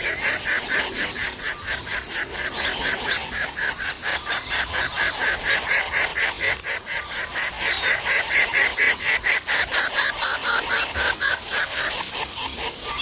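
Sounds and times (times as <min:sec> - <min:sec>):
chicks begging with raspy calls: 0:00.0 - 0:13.0.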